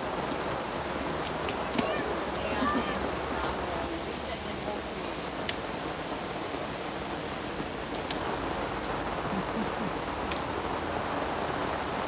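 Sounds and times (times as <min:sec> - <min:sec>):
rain on wet paving and plants: 0:00.0 - 0:12.0
sharp rain ticks: 0:00.0 - 0:12.0.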